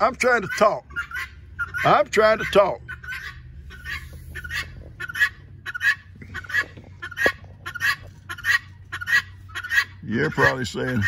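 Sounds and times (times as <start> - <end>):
guinea fowl calling: 0.3 - 11.0.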